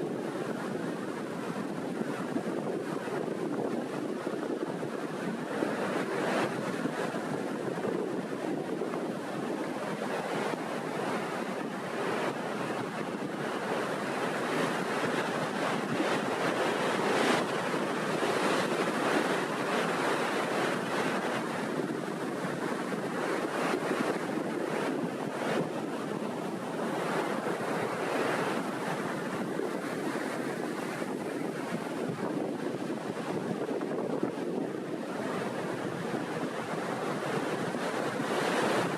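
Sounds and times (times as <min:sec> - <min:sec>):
small waves breaking on shore: 0:00.0 - 0:38.9
wind buffeting microphone: 0:00.0 - 0:38.9.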